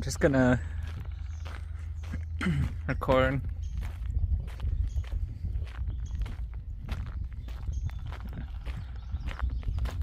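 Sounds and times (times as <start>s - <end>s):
footsteps crunching on dirt trail: 0.0s - 10.0s.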